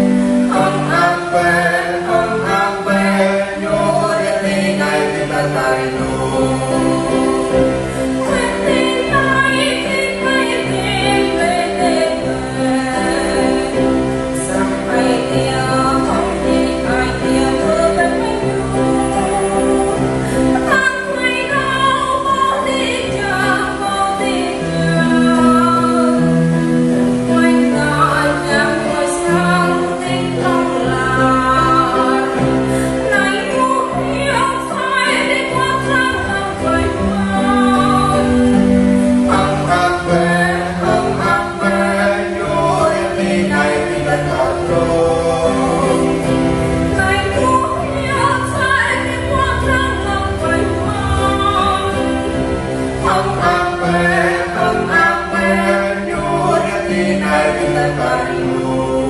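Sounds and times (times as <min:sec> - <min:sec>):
electronic keyboard: 0:00.0 - 0:59.0
woman singing a hymn: 0:00.0 - 0:59.0.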